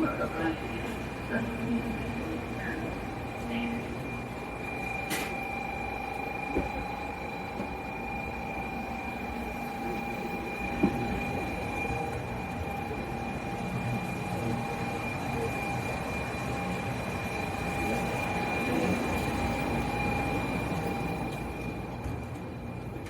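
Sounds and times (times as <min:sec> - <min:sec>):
train cabin rumble and whine: 0:00.0 - 0:23.0.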